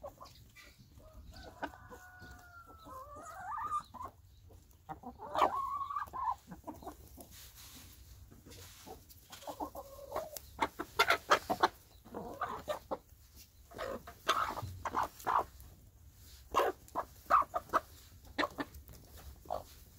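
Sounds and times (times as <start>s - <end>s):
beaks pecking on ground: 0.0s - 19.9s
hens clucking softly: 0.0s - 19.9s.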